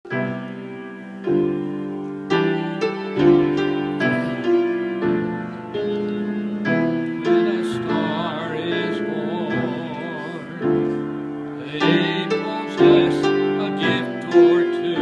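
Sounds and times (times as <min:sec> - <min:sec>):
slow piano chords: 0:00.1 - 0:15.0.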